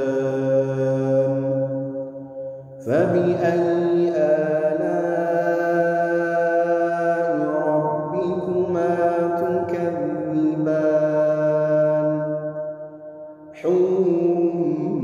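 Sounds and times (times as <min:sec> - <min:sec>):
man reciting melodically: 0:00.0 - 0:01.6, 0:02.8 - 0:12.3, 0:13.6 - 0:15.0.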